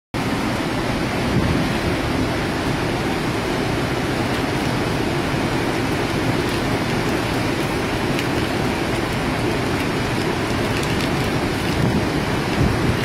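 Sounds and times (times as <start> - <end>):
rushing churning water: 0.2 - 13.0.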